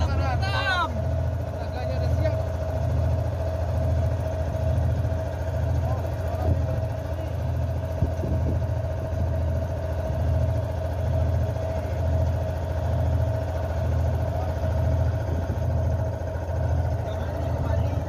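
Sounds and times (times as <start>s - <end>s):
boat engine idling: 0.0s - 18.0s
steady whine: 0.0s - 18.0s.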